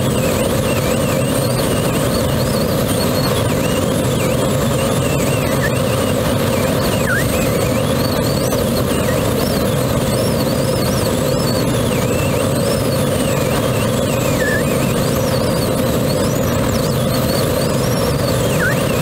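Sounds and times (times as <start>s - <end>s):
airflow rushing around glider: 0.0s - 19.0s
faint wavering whistling tone: 0.0s - 19.0s.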